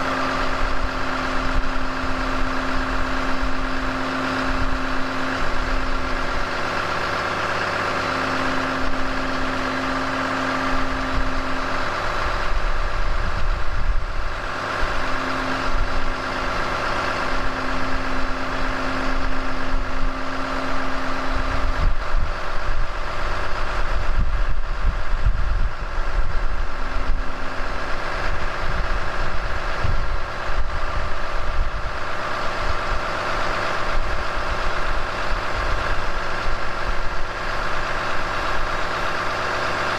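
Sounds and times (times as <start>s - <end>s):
steady low tone: 0.0s - 39.5s
diesel engine idling: 0.0s - 39.9s.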